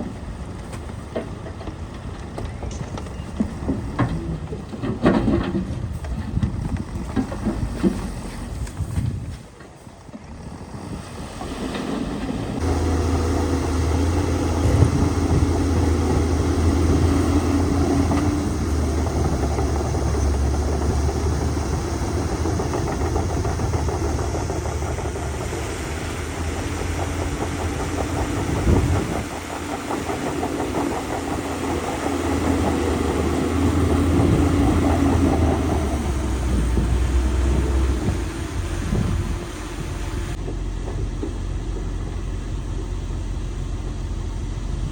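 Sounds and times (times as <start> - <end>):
heavy diesel engine droning: 0.0 - 44.9.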